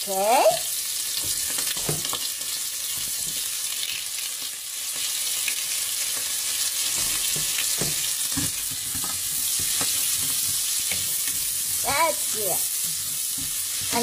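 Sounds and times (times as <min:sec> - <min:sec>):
onion sizzling in butter: 0:00.0 - 0:14.0.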